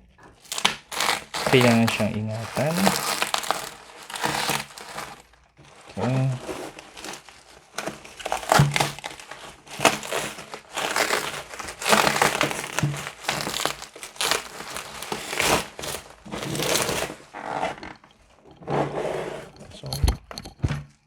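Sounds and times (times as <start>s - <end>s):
plastic packaging crinkling: 0.1s - 18.0s.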